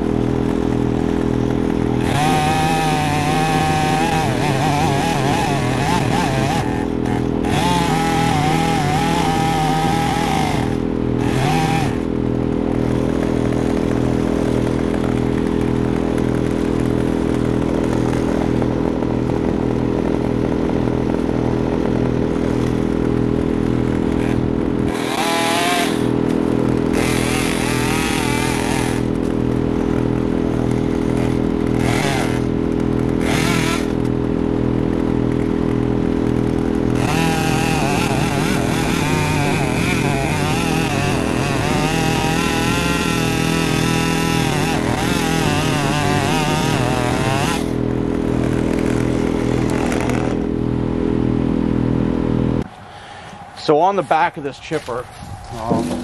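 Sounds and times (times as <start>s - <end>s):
chainsaw revving cutting log: 0.0s - 51.4s
engine running steadily: 0.0s - 56.0s.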